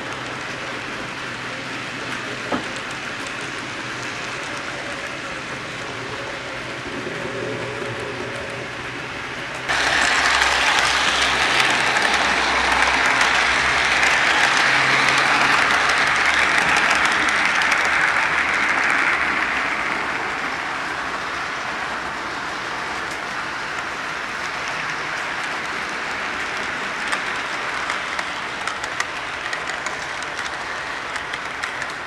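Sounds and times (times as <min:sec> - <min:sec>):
model train wheels clattering on rails: 0:00.0 - 0:06.7, 0:07.7 - 0:32.0.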